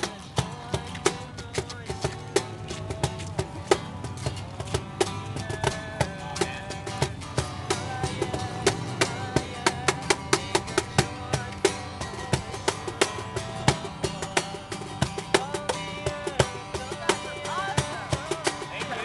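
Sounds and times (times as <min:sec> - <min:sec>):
acoustic guitar strumming: 0:00.0 - 0:19.0
cajon slaps: 0:00.0 - 0:19.0.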